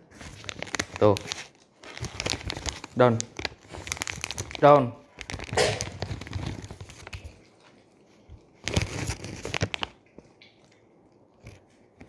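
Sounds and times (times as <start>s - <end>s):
dog crunching food: 0.3s - 12.0s.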